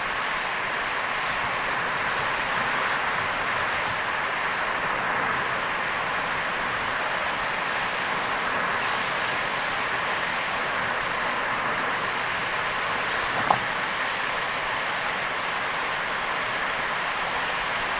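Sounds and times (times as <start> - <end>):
tyres on wet road: 0.0 - 14.6
heavy rain: 0.0 - 17.9.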